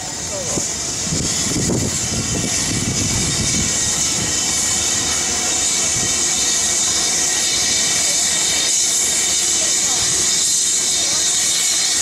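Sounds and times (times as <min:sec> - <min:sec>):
loud hiss of escaping steam: 0:00.0 - 0:12.0
steam locomotive rumbling: 0:00.0 - 0:12.0.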